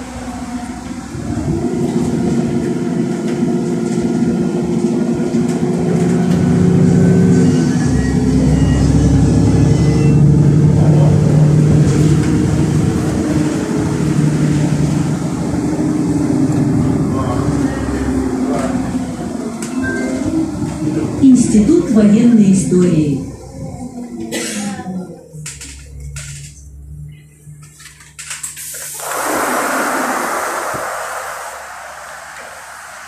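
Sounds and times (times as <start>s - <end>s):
bus engine and drivetrain: 0.0s - 28.7s.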